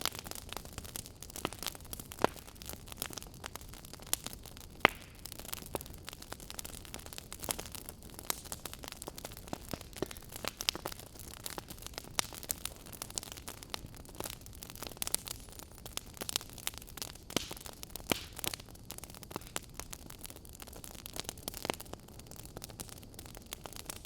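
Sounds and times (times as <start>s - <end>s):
soft hiss of fire: 0.0s - 24.0s
wood fire crackling: 0.0s - 24.0s.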